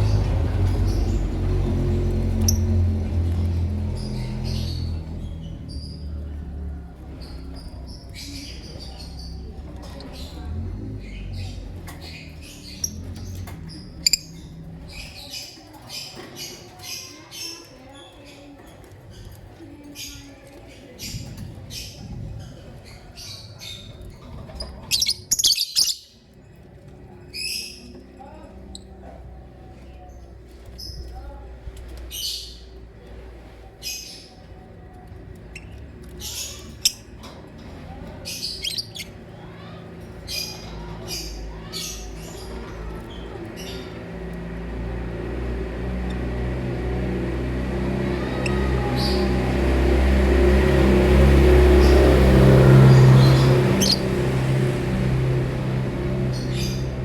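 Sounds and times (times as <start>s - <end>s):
low mechanical hum: 0.0s - 25.4s, 26.2s - 57.0s.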